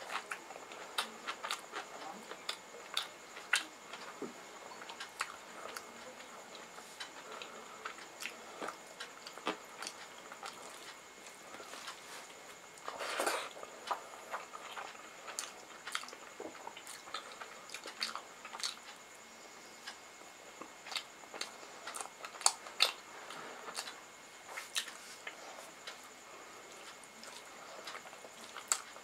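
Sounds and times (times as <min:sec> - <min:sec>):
person chewing food: 0:00.0 - 0:19.0, 0:19.8 - 0:29.0.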